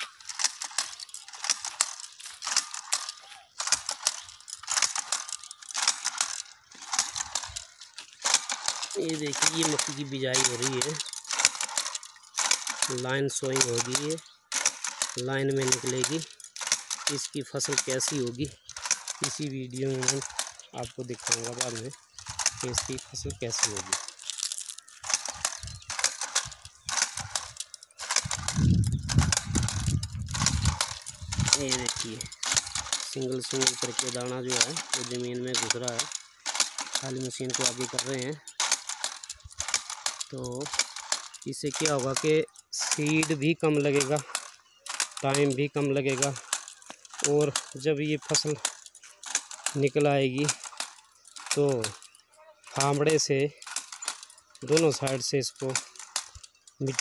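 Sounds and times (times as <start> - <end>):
planter rattling clicks: 0.0 - 57.0.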